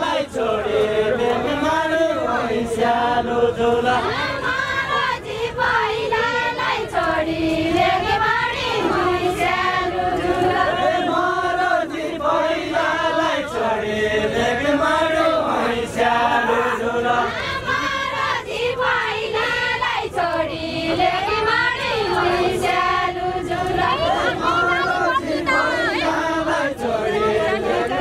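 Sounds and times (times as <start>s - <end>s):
group singing folk song: 0.0s - 28.0s.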